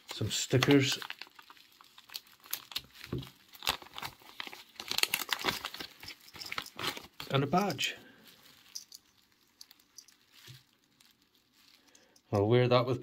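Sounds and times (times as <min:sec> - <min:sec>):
plastic wrap crinkling: 0:00.0 - 0:12.5.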